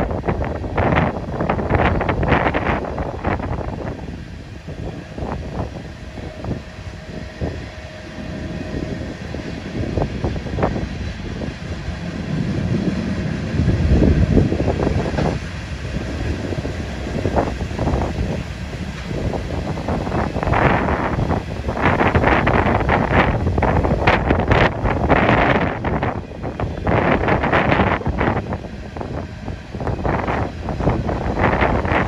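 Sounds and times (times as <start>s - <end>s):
train clanks and knocks: 0.0s - 32.0s
train wheels rumbling on rail: 0.0s - 32.0s.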